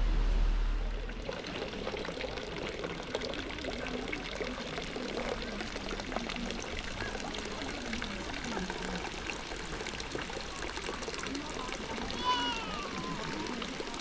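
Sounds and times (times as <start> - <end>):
running water pouring and splashing: 0.8 - 14.0.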